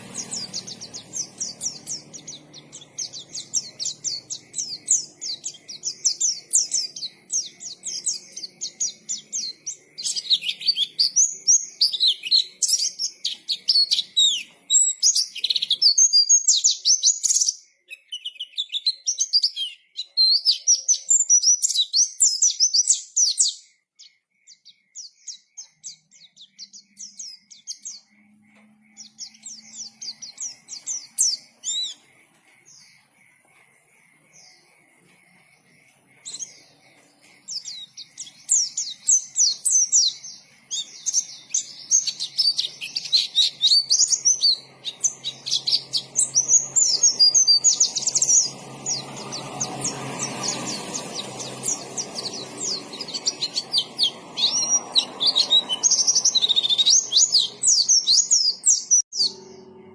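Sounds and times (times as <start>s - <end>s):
bird singing high chattering warble: 0.0s - 59.9s.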